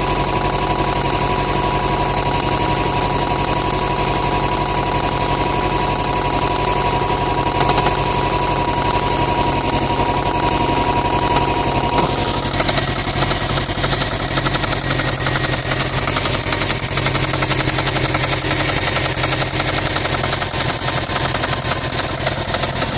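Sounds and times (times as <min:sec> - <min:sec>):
car engine knocking: 0:00.0 - 0:22.9.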